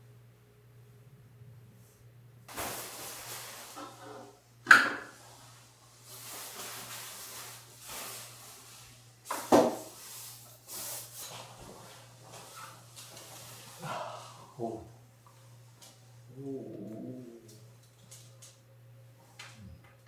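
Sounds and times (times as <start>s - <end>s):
rustling and shuffling objects: 1.8s - 4.4s, 5.0s - 20.0s.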